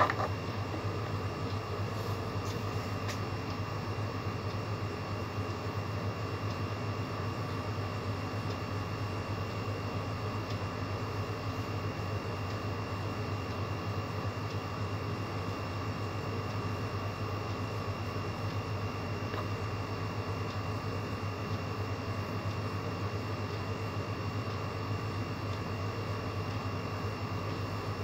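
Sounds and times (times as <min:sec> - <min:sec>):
machine hum with high whine: 0:00.0 - 0:28.0.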